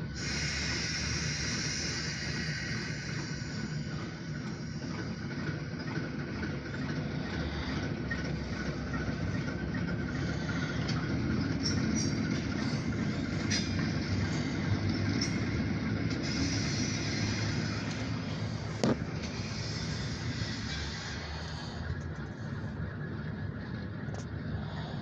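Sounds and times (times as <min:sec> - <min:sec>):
diesel locomotive rumbling: 0:00.0 - 0:25.0.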